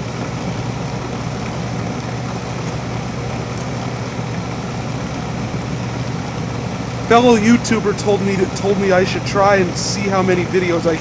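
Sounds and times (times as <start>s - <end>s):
heat pump compressor hum: 0.0s - 11.0s.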